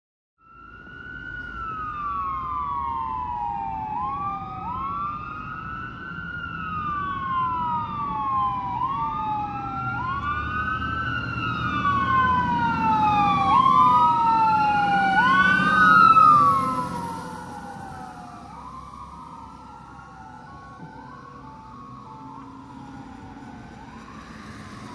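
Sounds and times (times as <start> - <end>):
fire engine sirens wailing: 0.4 - 24.9
truck engine rumble: 0.7 - 24.9.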